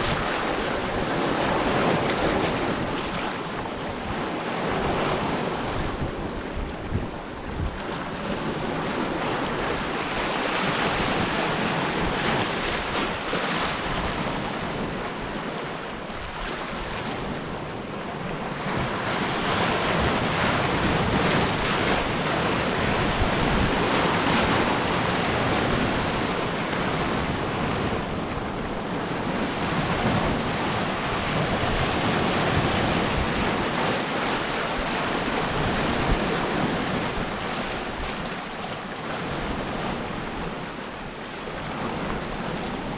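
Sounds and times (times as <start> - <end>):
sea surf breaking: 0.0 - 42.9
wind buffeting microphone: 0.0 - 42.9.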